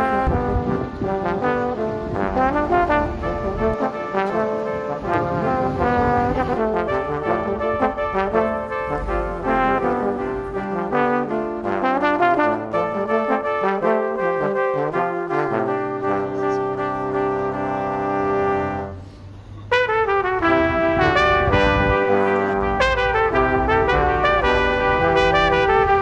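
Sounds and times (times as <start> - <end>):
brass quartet playing: 0.0 - 19.1, 19.7 - 26.0.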